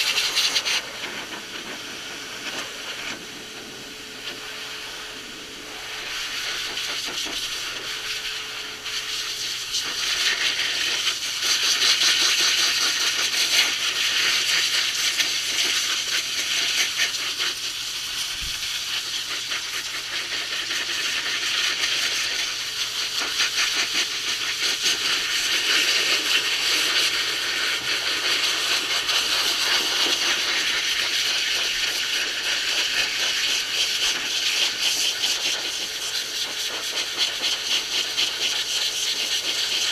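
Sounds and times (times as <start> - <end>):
dog dryer blowing air: 0.0 - 39.9.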